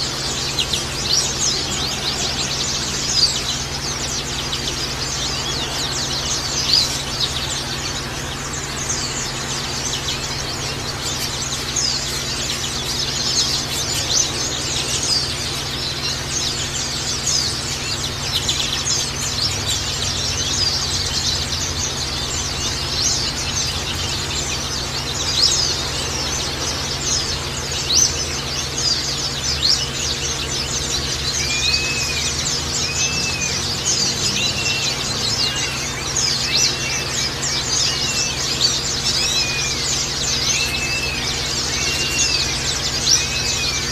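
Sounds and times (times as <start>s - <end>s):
arched bird whistles: 0.0s - 43.9s
birds twittering: 0.0s - 43.9s.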